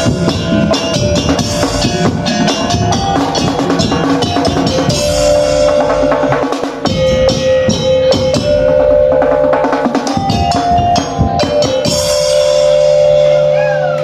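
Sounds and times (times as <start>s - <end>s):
drums and wooden percussion: 0.0s - 14.0s
held melody line: 0.0s - 14.0s.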